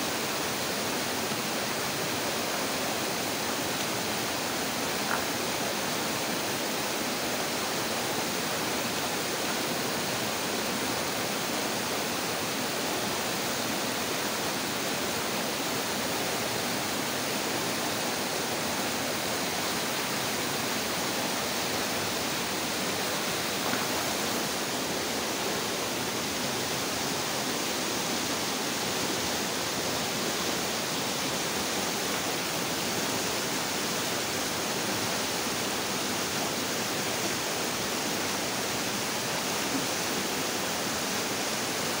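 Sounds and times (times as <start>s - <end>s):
stream water rushing over rocks: 0.0s - 42.0s.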